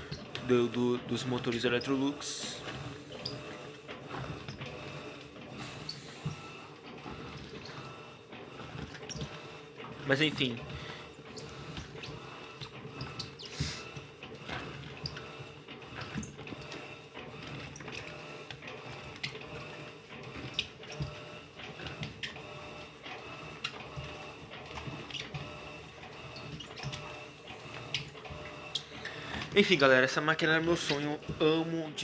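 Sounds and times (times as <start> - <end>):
washing machine motor whirring: 0.0 - 32.0.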